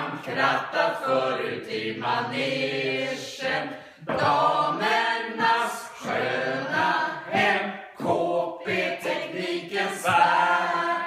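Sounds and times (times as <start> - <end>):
choir singing: 0.0 - 11.0.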